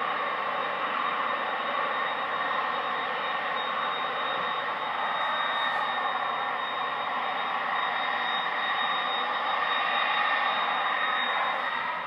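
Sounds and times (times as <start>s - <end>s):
jet engines running with high whine: 0.0s - 12.0s.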